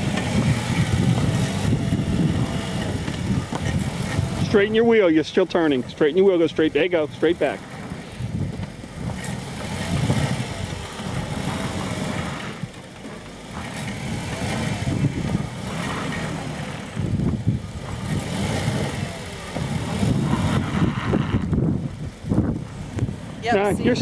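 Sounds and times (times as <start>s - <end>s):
car engine revving under load: 0.0s - 24.0s.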